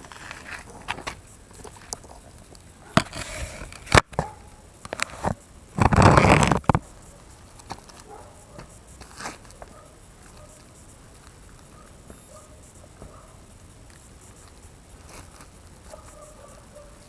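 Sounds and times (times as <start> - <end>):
scraping rustle: 0.0 - 17.0.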